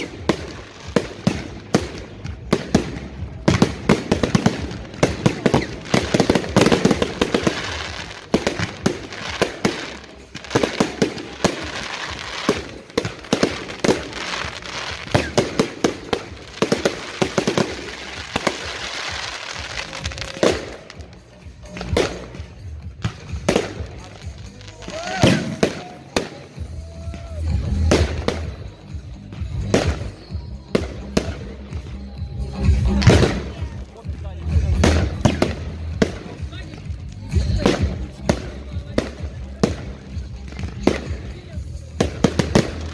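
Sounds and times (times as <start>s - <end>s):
aerial fireworks bangs and crackling: 0.0s - 31.9s, 32.6s - 42.9s.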